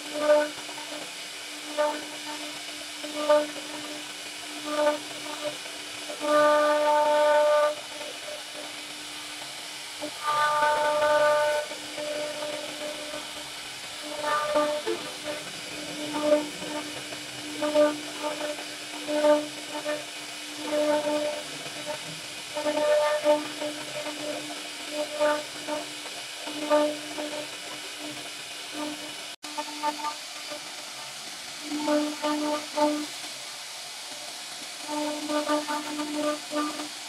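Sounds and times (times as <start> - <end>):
router spindle carving wood: 0.0 - 33.2, 34.0 - 37.0.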